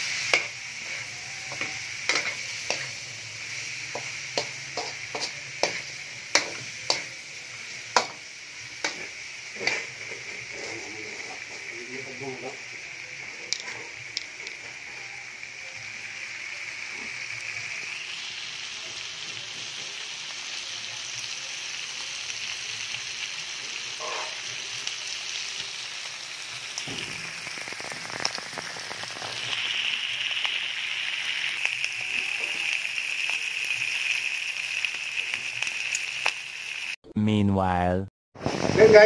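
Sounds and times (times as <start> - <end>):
meat sizzling in a pot: 0.0 - 37.0, 38.4 - 39.0.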